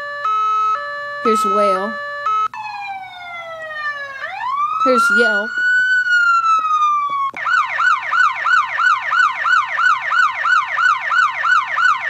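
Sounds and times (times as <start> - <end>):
electronic siren wail and yelp: 0.0 - 12.0.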